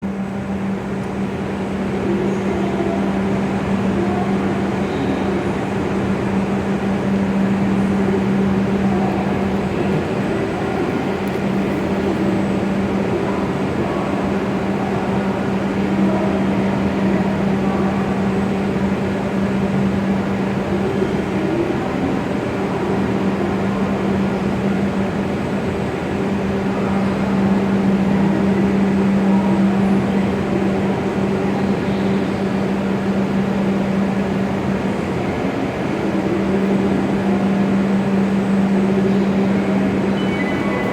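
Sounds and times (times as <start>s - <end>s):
train rumbling with low hum: 0.0s - 40.9s.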